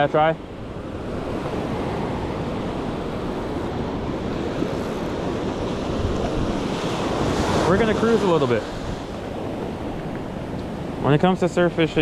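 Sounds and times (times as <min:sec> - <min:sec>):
ocean surf on a beach: 0:00.0 - 0:12.0
wind rumbling on microphone: 0:00.4 - 0:12.0.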